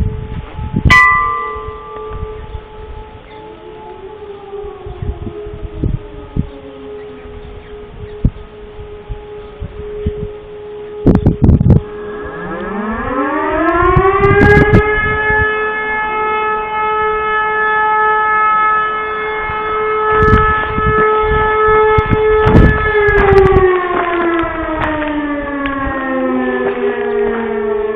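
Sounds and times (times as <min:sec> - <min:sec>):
distant siren holding tone: 0:00.0 - 0:27.9.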